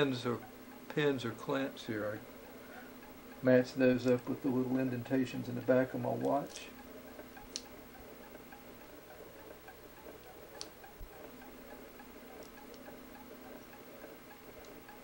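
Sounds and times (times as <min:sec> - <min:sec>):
watch ticking: 0:00.0 - 0:15.0.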